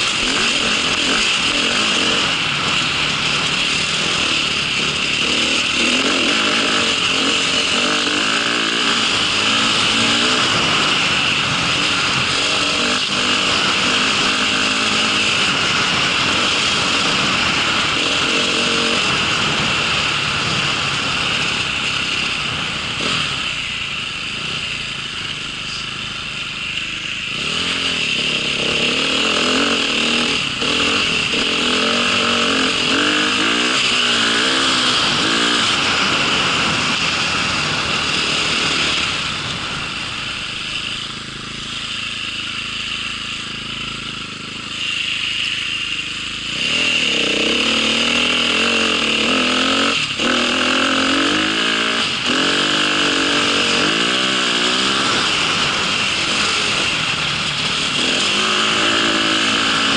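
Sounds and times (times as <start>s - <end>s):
small vehicle engine revving: 0.0s - 59.9s.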